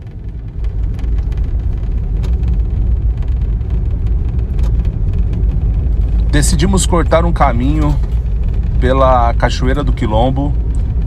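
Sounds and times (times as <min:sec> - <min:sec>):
faint knocks and rattles: 0:00.0 - 0:11.0
vehicle rumble from inside: 0:00.0 - 0:11.0.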